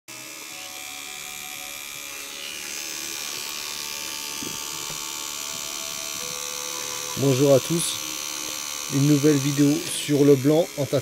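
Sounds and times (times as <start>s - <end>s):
tattoo machine buzzing: 0.1s - 11.0s.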